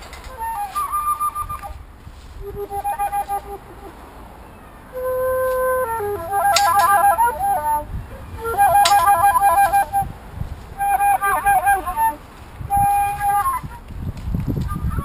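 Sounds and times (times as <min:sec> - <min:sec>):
flute trilling runs: 0:00.0 - 0:10.1, 0:10.7 - 0:13.9, 0:14.5 - 0:15.0.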